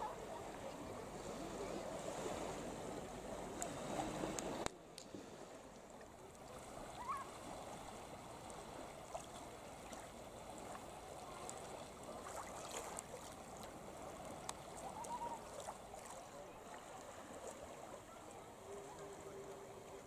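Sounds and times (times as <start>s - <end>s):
water lapping around boulders: 0.0s - 20.0s.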